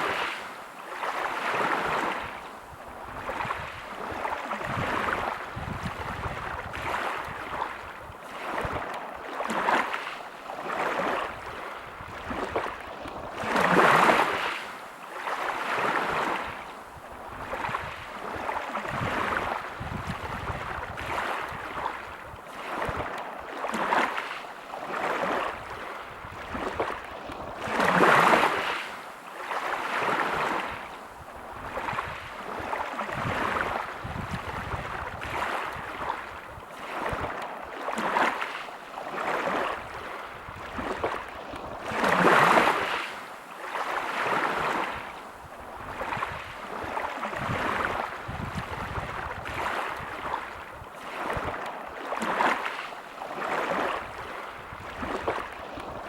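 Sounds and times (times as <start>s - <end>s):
waves breaking on pebble beach: 0.0s - 2.4s, 3.1s - 16.6s, 17.4s - 30.9s, 31.6s - 56.0s.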